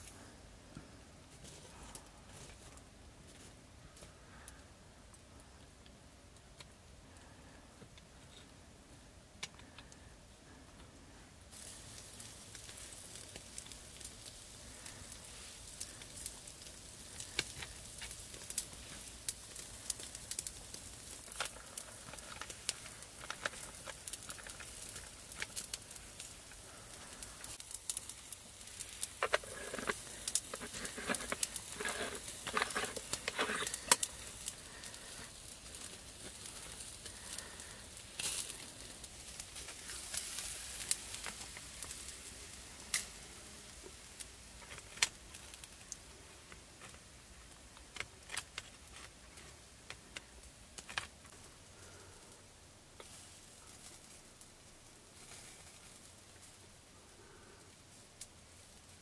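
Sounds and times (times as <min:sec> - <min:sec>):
low steady hiss: 0:00.0 - 0:59.0
wood fire crackling: 0:00.0 - 0:59.0.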